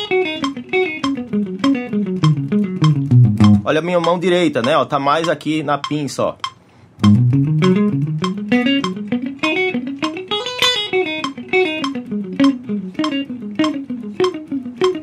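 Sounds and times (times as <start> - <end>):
clean electric guitar scale: 0.0 - 15.0.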